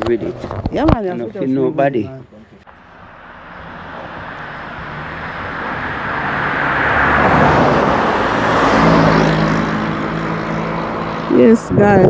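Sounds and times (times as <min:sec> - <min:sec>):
car approaching: 0:00.0 - 0:12.0.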